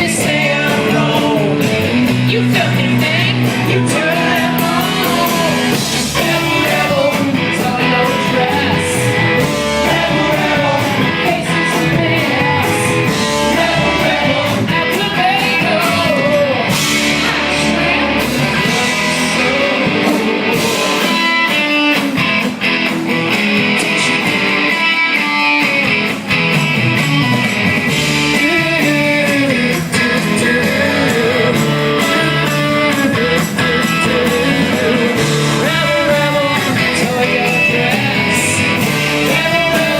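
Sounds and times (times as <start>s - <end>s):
person singing: 0.0s - 21.7s, 28.2s - 39.9s
electric guitar: 0.0s - 39.9s
live rock band playing: 0.0s - 39.9s.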